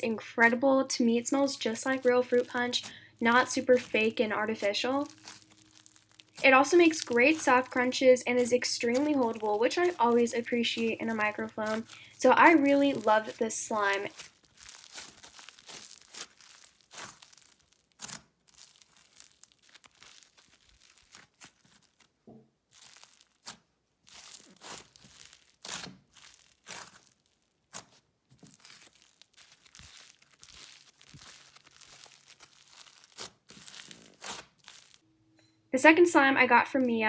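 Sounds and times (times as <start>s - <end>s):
slime squeezed by hand crunching: 1.6s - 35.0s.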